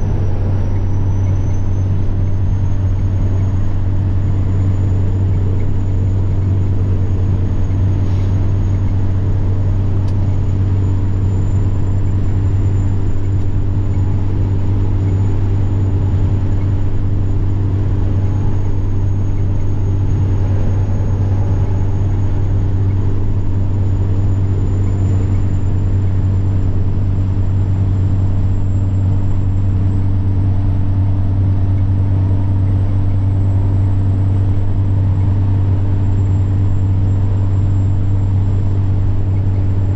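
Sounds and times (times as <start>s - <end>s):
diesel truck engine droning: 0.0s - 39.9s
turbocharger whine: 0.0s - 39.9s.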